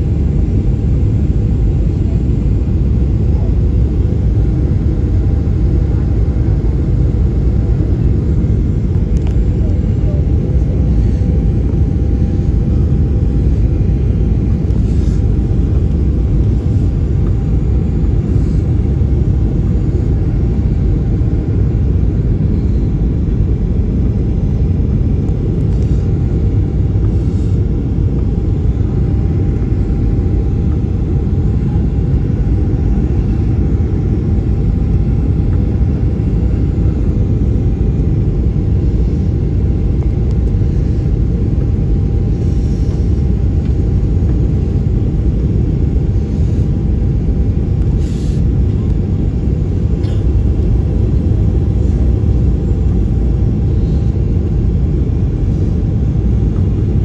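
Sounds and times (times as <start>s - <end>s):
airplane cabin engine rumble: 0.0s - 57.0s
faint steady hum: 0.0s - 57.0s.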